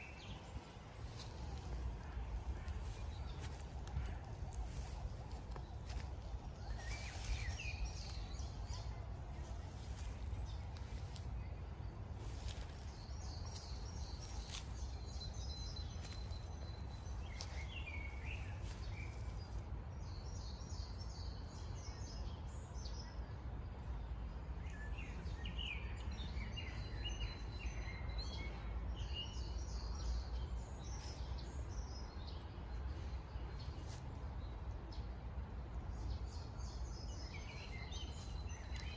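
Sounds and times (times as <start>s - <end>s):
small birds chirping: 0.0s - 23.2s, 24.7s - 38.9s.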